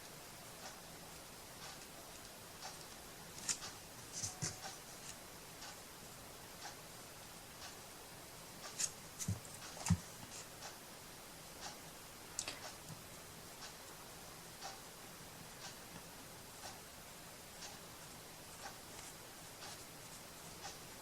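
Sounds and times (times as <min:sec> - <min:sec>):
clock ticking faintly: 0:00.0 - 0:21.0.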